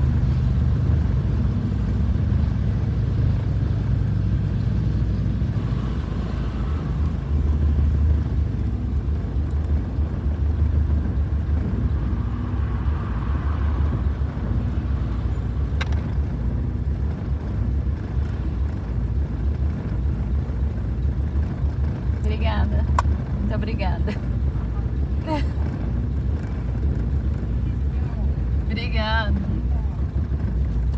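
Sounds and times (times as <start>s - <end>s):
car engine low rumble: 0.0s - 30.9s.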